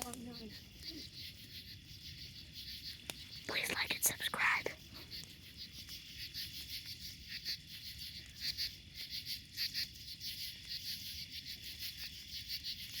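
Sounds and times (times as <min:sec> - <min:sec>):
bonfire crackling: 0:00.0 - 0:13.0
crickets chirping: 0:00.0 - 0:13.0.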